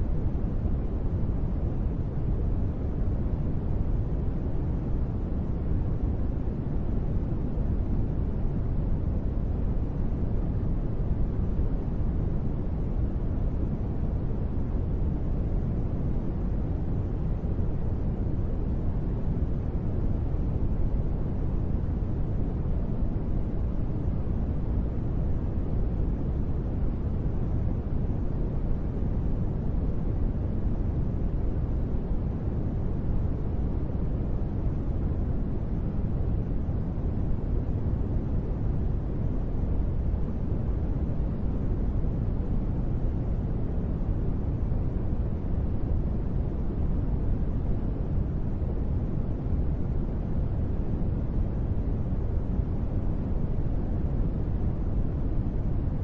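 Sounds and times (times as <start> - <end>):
muffled gentle rain noise: 0.0 - 56.0.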